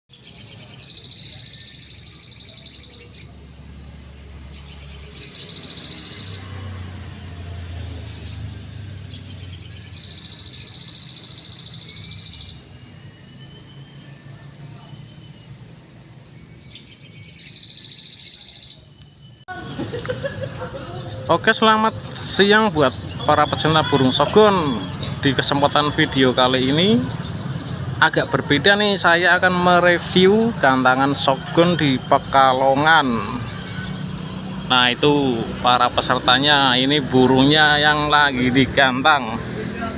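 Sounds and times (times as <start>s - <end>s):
bird high-pitched trills: 0.1s - 39.9s.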